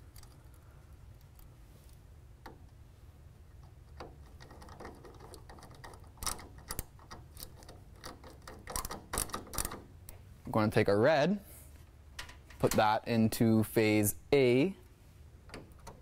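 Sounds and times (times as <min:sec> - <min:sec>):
wires clicking and scraping: 0:00.0 - 0:10.7, 0:11.6 - 0:13.0, 0:14.8 - 0:16.0
low steady hum: 0:00.0 - 0:16.0.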